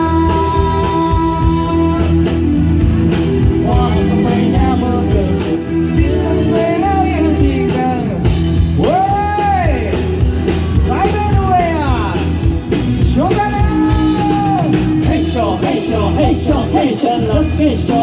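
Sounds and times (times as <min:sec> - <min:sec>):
person singing: 0:00.0 - 0:02.7, 0:03.4 - 0:18.0
live rock band playing: 0:00.0 - 0:18.0
melodic lead swooping: 0:00.0 - 0:18.0.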